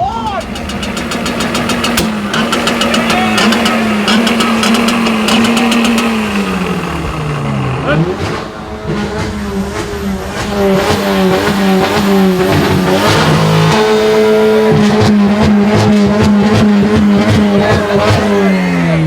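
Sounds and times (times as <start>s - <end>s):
car engine revving: 0.0s - 19.0s
exhaust cracks: 0.0s - 19.0s.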